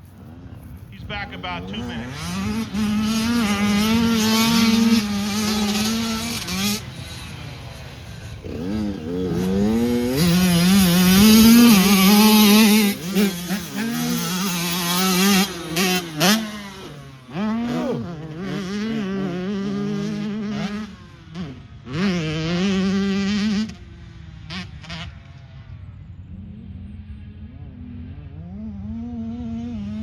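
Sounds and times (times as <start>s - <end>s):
small engine revving high: 0.2s - 25.2s, 26.4s - 30.0s.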